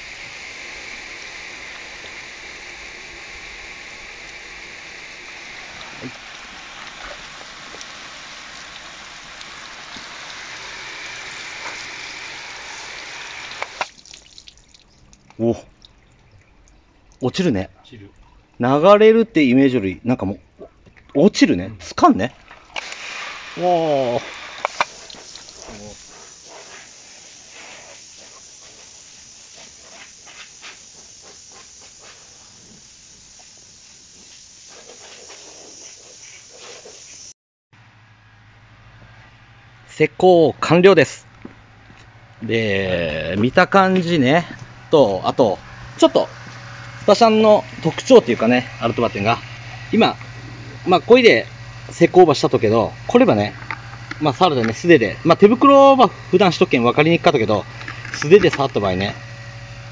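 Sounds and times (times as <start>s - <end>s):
steady hiss: 0.0s - 15.7s, 22.7s - 59.9s
hose water spraying on car: 0.0s - 16.0s, 22.4s - 37.3s, 40.2s - 59.9s.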